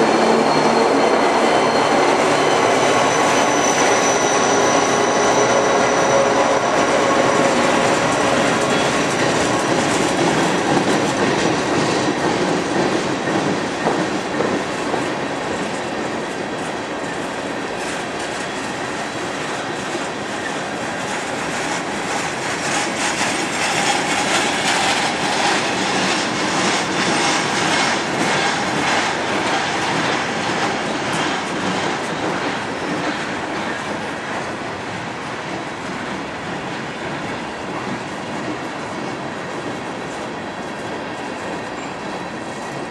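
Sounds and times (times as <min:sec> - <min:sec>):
diesel locomotive engine: 0:00.0 - 0:42.9
train wheels clickety-clack: 0:00.0 - 0:42.9.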